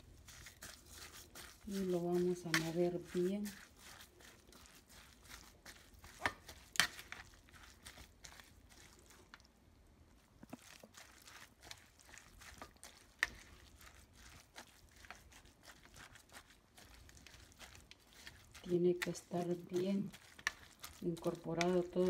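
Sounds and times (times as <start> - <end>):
salsa being stirred in bowl: 0.0 - 9.6, 10.2 - 22.0.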